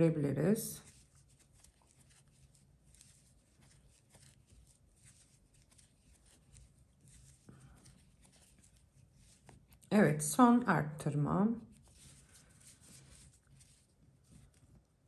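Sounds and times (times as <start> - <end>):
yarn rustling through crochet hook: 0.0 - 10.6, 11.3 - 15.0.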